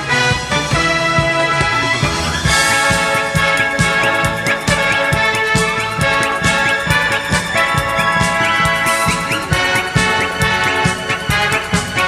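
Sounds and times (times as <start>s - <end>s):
upbeat music with bouncy beat: 0.0s - 12.0s.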